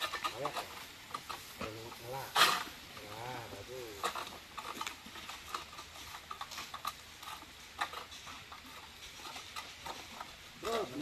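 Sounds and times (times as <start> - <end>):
sickle clicking and scraping: 0.0 - 11.0.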